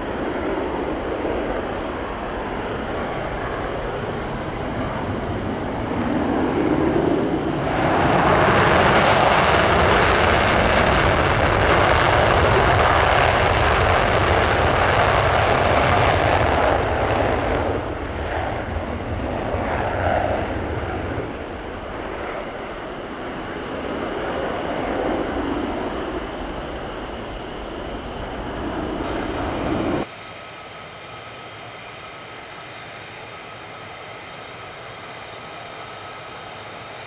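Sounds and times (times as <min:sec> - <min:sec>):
steady jet hum: 0:00.0 - 0:36.8
jet engines roaring: 0:00.0 - 0:37.0.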